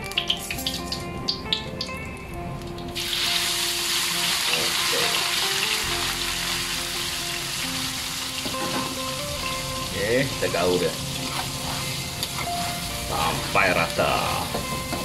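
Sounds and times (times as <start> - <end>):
spice paste sizzling in oil: 3.0 - 15.0.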